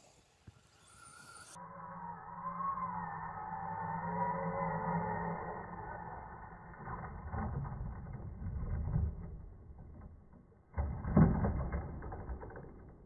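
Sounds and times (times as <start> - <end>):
rc monster truck running: 0.0 - 13.0.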